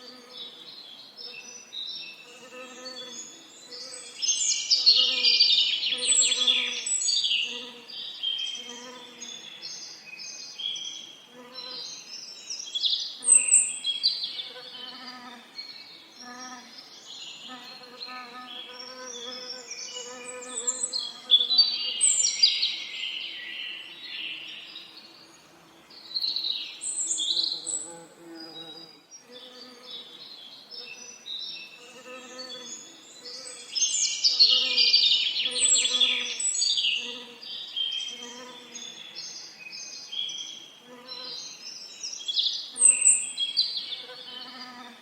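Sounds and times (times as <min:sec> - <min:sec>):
songbirds singing and chirping: 0:00.0 - 0:45.0.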